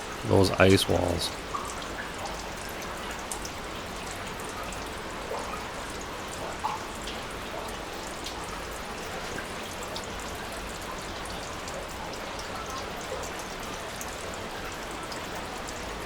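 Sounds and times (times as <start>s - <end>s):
small drips and ticks: 0.0s - 16.0s.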